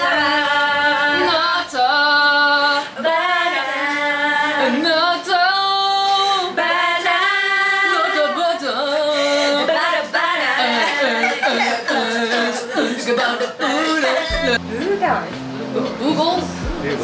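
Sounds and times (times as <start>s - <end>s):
women singing together: 0.0s - 14.7s.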